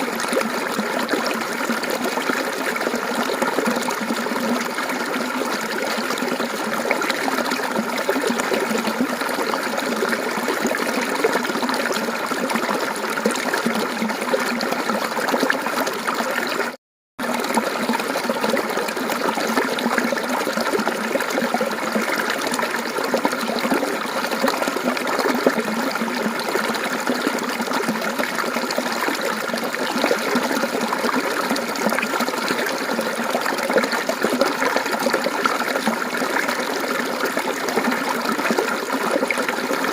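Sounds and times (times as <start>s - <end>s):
water flowing and babbling: 0.0s - 39.9s.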